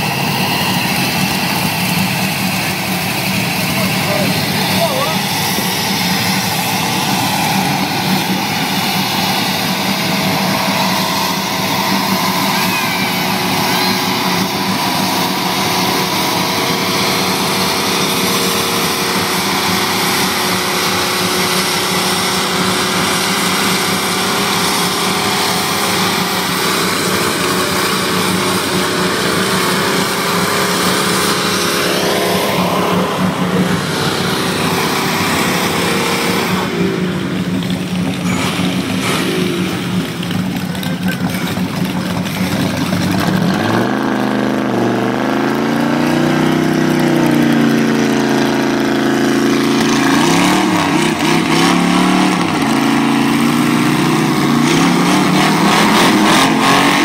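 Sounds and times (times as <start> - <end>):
car engine revving high: 0.0 - 57.0
tyres spinning on pavement: 0.0 - 57.0.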